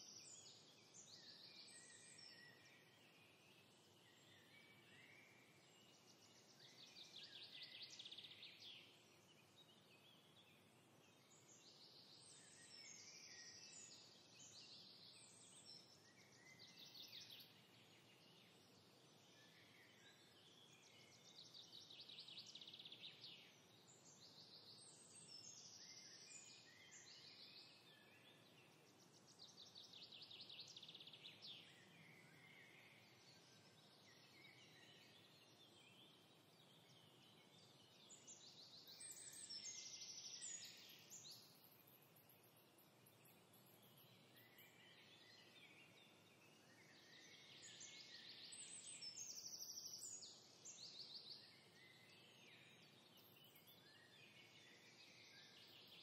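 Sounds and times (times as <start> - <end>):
light steady hiss: 0.0 - 56.0
songbirds chirping: 0.0 - 56.0.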